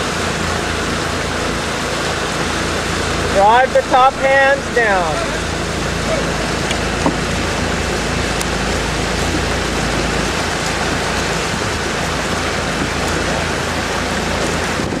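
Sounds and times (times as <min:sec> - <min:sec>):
low engine hum: 0:00.0 - 0:15.0
wind and water rushing: 0:00.0 - 0:15.0.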